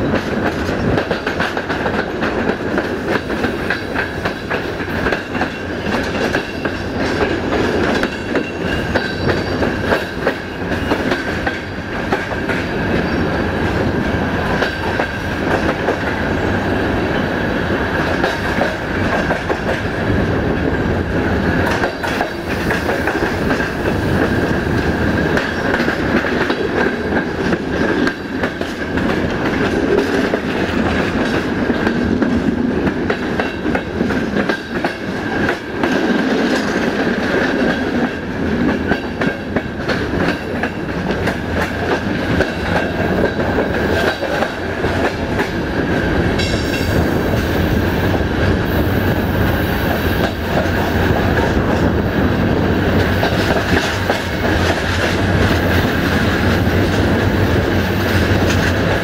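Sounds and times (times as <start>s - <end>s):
train wheels clattering: 0.0s - 59.0s.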